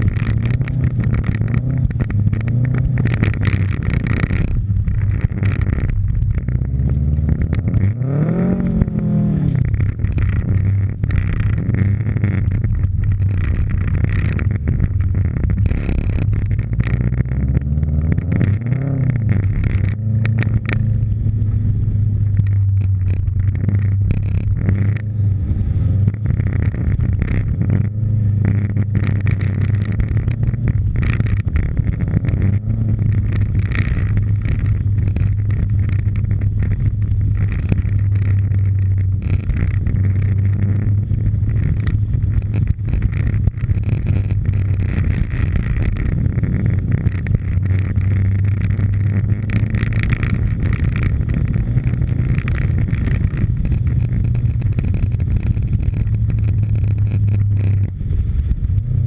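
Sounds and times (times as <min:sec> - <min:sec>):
car engine and exhaust under load: 0:00.0 - 0:59.0.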